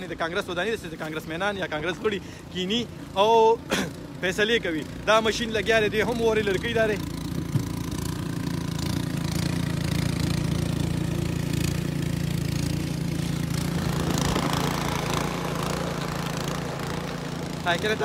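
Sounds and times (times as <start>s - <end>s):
machine engine humming: 0.9s - 18.0s.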